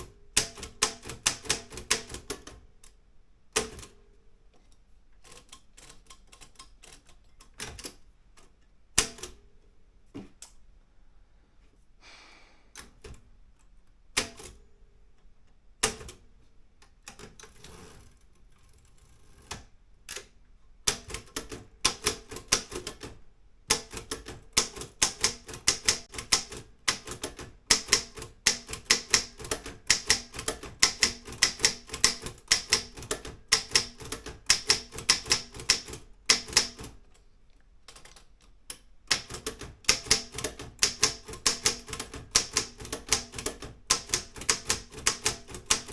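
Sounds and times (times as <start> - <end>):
manual typewriter keystrokes: 0.0 - 4.0, 5.2 - 9.4, 14.1 - 14.6, 15.8 - 37.2, 37.8 - 45.9.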